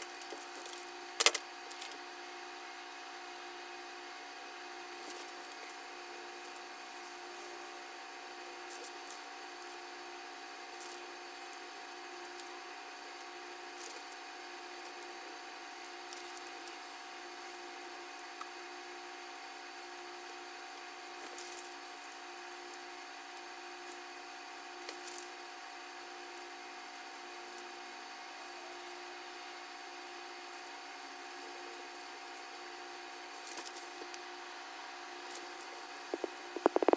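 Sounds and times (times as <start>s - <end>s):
steady background hum: 0.0s - 36.9s.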